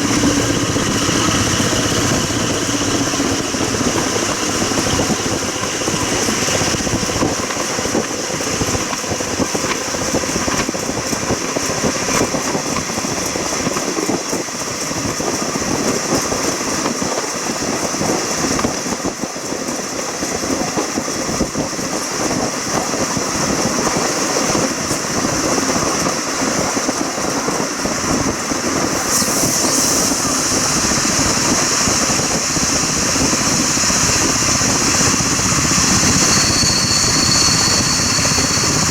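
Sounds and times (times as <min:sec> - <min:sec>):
train rolling noise: 0:00.0 - 0:38.9.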